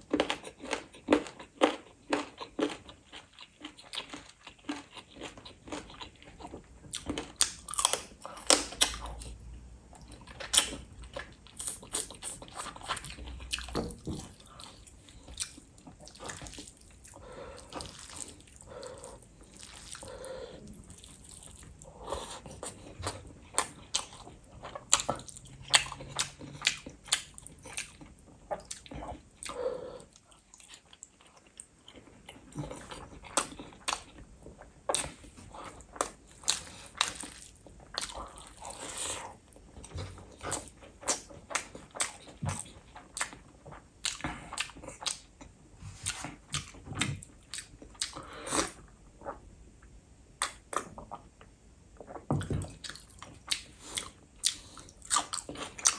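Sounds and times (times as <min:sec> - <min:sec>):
person chewing: 0:00.0 - 0:49.4, 0:52.0 - 0:55.9.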